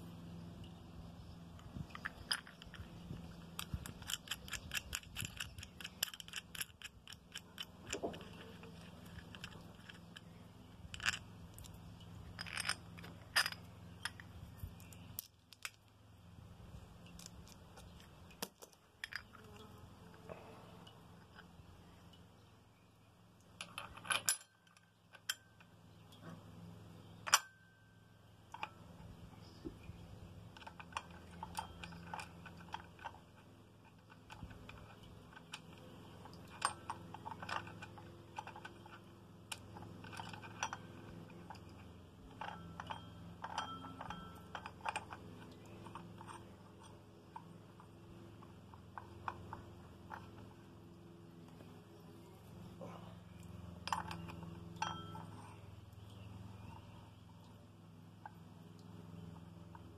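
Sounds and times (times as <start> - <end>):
small metal clicks: 1.5 - 16.0, 16.7 - 22.5, 23.4 - 26.4, 28.5 - 52.0, 53.3 - 57.6.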